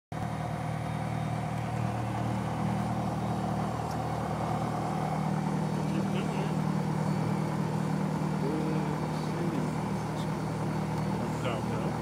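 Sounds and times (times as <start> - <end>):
aircraft engine and propeller droning: 0.2 - 12.0.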